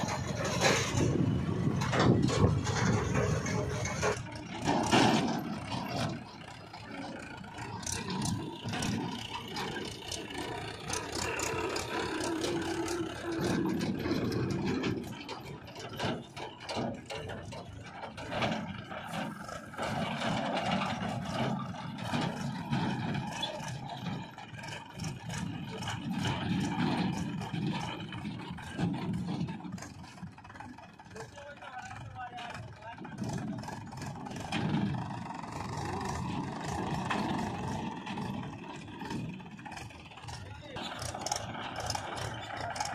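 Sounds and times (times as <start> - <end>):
tractor diesel engine running: 0.0 - 42.9
trolley clanks and rattles: 0.0 - 42.9.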